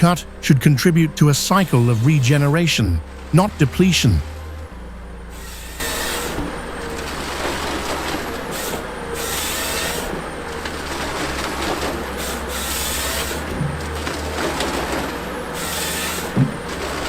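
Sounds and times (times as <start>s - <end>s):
low engine drone: 0.0s - 17.0s
wood chipper grinding: 0.0s - 17.0s.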